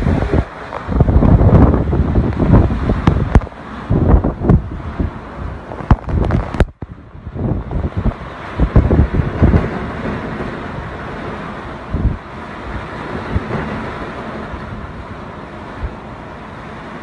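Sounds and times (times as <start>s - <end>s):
driving rain hiss: 0.0s - 17.0s
wind gusts buffeting microphone: 0.0s - 17.0s.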